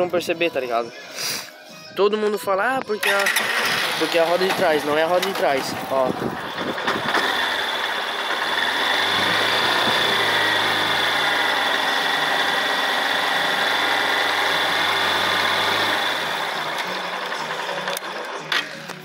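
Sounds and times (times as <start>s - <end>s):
motorcycle engine running: 3.1s - 19.0s.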